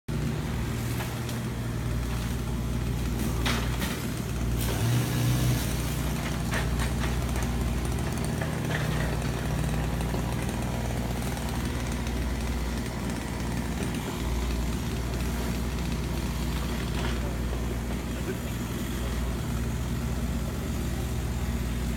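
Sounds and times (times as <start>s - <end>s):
large engine droning: 0.1s - 21.9s.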